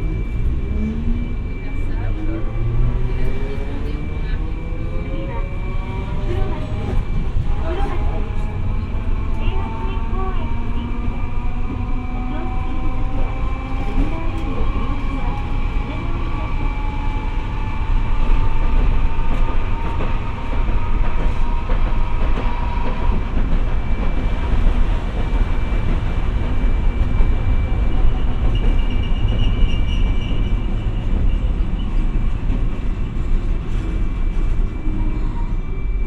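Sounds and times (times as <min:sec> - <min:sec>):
streetcar wheels rumbling on track: 0:00.0 - 0:36.0.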